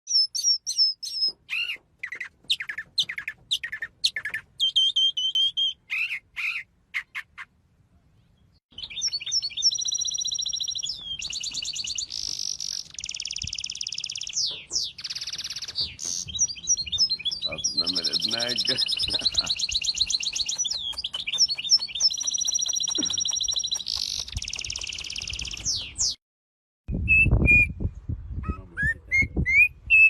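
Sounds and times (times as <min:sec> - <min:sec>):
songbirds chirping and trilling: 0:00.1 - 0:26.2.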